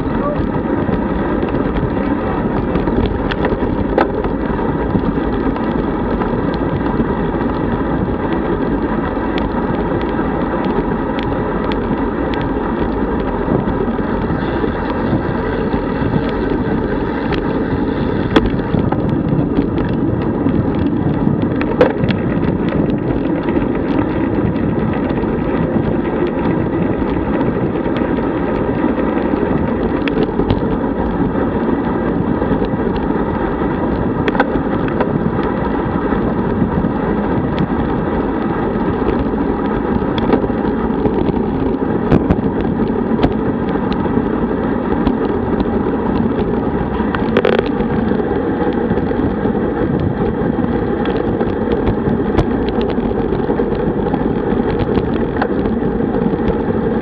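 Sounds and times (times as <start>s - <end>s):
tyre and road noise: 0.0s - 57.0s
wind rushing on microphone: 0.0s - 57.0s.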